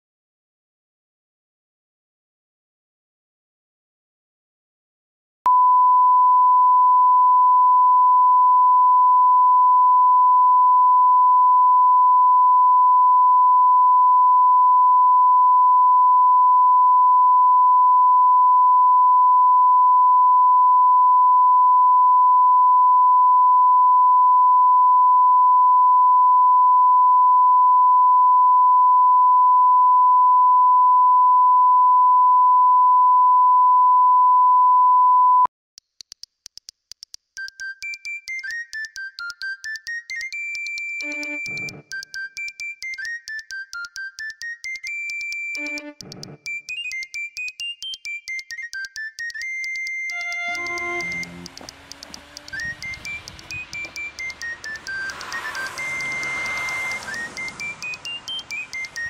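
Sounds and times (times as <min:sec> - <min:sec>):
steady test tone beep: 0:05.5 - 0:35.5, 0:37.4 - 0:59.0.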